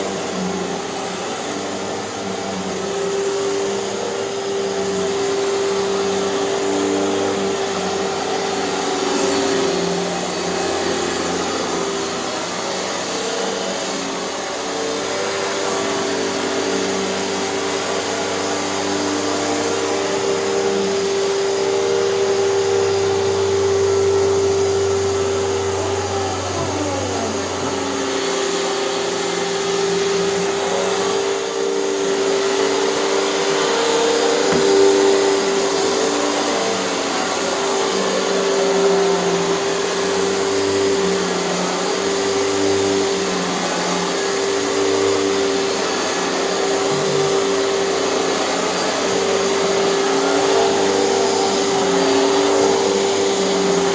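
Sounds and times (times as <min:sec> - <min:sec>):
vacuum cleaner motor whine: 0:00.0 - 0:53.9.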